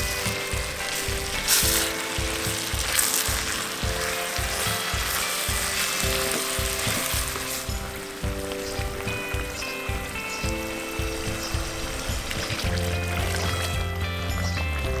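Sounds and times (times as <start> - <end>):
peppers sizzling in a pot: 0.0 - 15.0.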